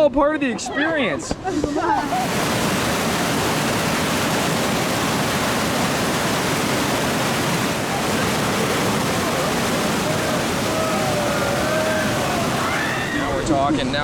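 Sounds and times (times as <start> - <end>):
whitewater rushing: 2.0 - 13.6.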